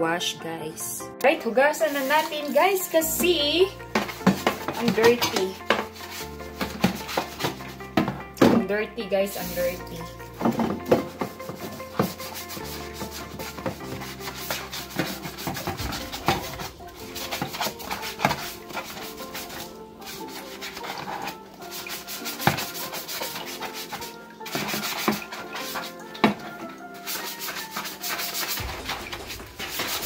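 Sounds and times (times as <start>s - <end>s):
hand scrubbing plastic tray: 1.7s - 8.2s, 9.4s - 30.0s.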